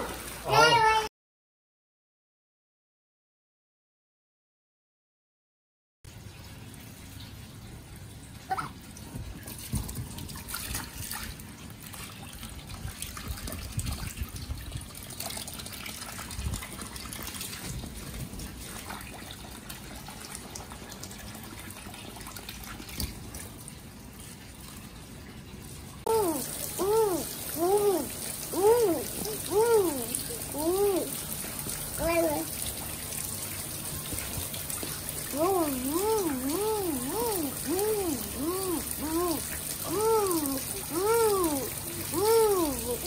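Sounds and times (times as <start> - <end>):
hose water splashing into pool: 0.0 - 1.1, 6.1 - 43.0.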